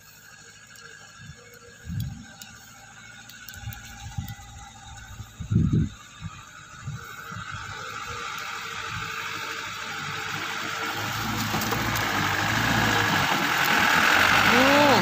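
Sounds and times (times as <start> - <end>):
low engine hum: 0.0 - 15.0
truck engine and tyre rushing: 0.0 - 15.0.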